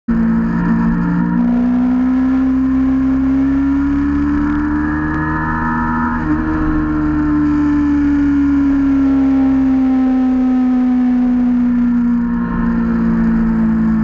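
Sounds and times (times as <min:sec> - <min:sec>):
vehicle motor whining hum: 0:00.1 - 0:14.0
wind and road noise: 0:00.1 - 0:14.0.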